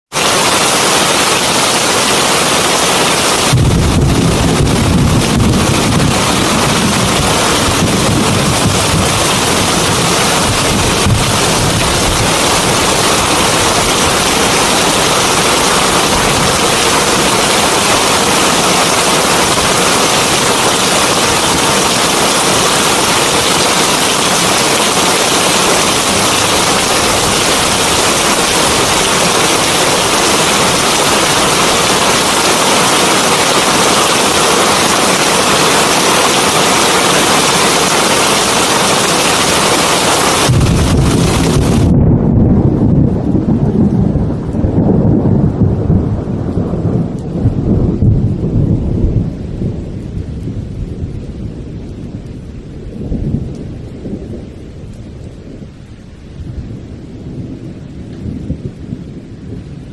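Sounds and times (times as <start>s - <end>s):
heavy rain falling: 0.0s - 59.9s
thunder rumble: 2.0s - 59.9s.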